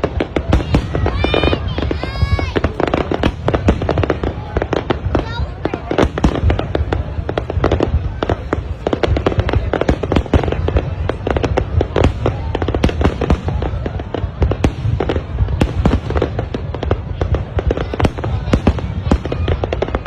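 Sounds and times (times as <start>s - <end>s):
fireworks bangs: 0.0s - 20.0s
low rumble of echoing explosions: 0.0s - 20.0s.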